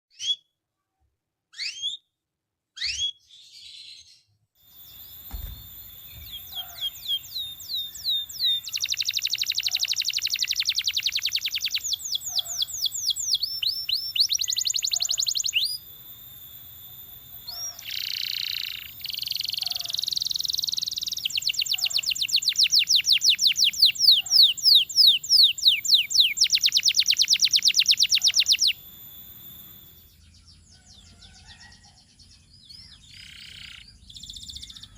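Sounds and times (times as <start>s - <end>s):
canary singing: 0.1s - 0.5s, 1.5s - 2.1s, 2.8s - 34.9s.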